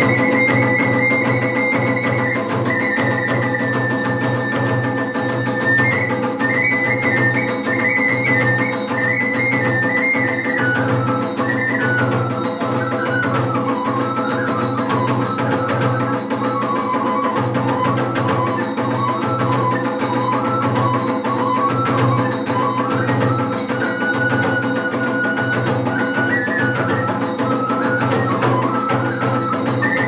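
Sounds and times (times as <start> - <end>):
bamboo flute melody: 0.0 - 30.0
continuous drumming: 0.0 - 30.0
hand cymbals: 0.0 - 30.0.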